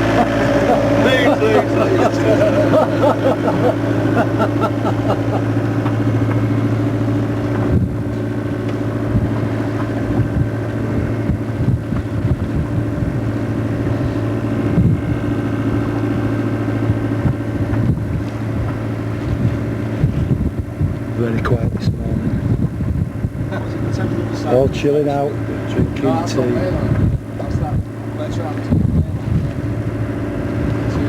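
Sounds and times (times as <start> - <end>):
motor humming: 0.0 - 31.0.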